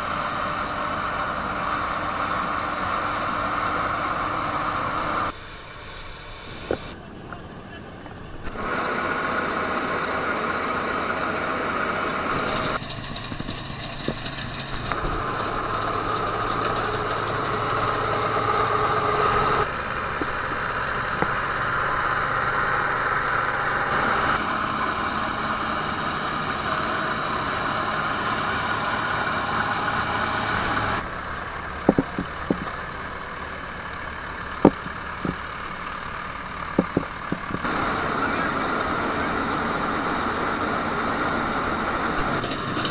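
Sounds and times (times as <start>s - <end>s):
diesel engines running: 0.0s - 42.9s
engine knocking: 8.5s - 42.9s.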